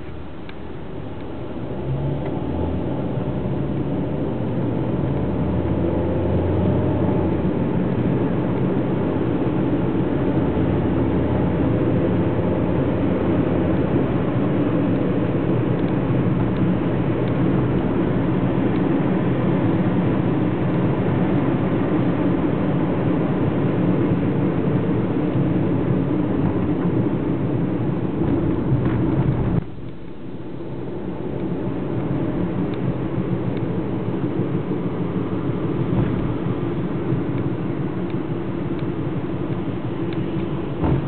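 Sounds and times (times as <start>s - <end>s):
car engine and tyre noise: 0.0s - 41.0s.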